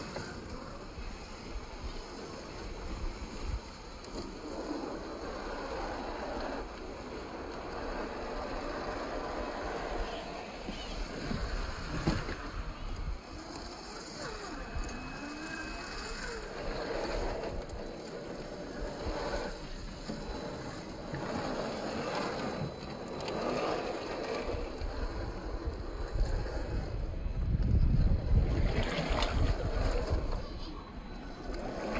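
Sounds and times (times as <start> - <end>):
electric motors whirring: 0.0 - 31.9
motor whines: 0.0 - 31.9
wind noise on microphone: 0.0 - 31.9.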